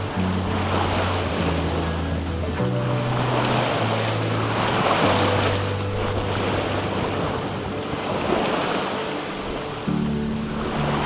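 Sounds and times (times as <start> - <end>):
soft background music tones: 0.0 - 11.0
water rushing along hull: 0.0 - 11.0
wind buffeting microphone: 0.0 - 11.0.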